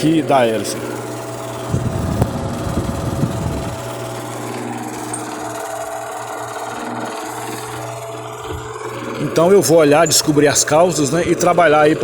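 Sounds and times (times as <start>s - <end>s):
electric fan motor hum: 0.0s - 12.0s
fan blade rattling: 0.0s - 12.0s.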